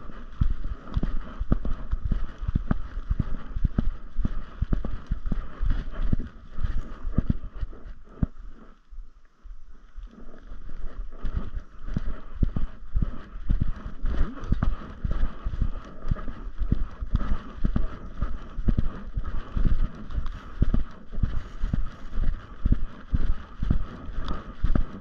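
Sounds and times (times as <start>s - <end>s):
footsteps on trail: 0.0s - 8.7s, 10.0s - 25.0s.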